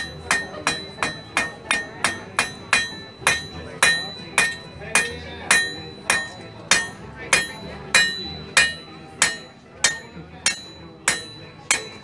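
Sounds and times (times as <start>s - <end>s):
hammer ringing on anvil: 0.0s - 12.0s.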